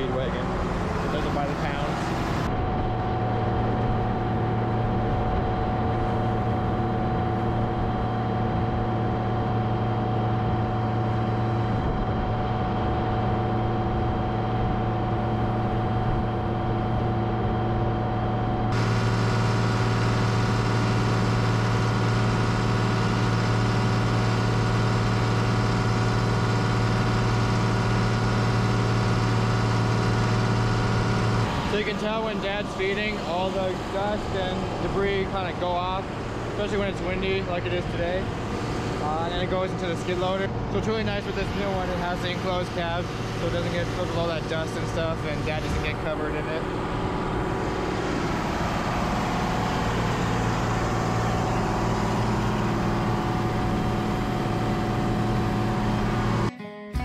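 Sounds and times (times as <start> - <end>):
skid-steer loader running: 0.0 - 56.5
tractor engine humming: 0.0 - 56.5.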